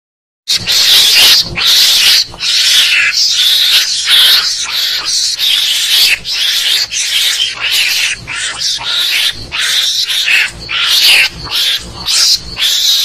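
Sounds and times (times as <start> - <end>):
mongoose chattering cries: 0.5 - 13.0.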